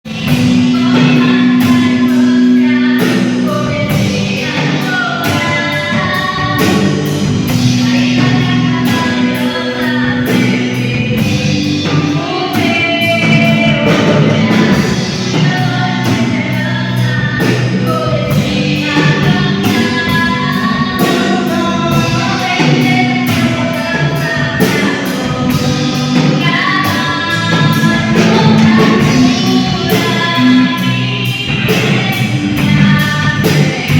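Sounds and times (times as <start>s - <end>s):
drum kit beat: 0.0s - 33.9s
guitar playing: 0.1s - 33.9s
people singing: 0.1s - 33.9s.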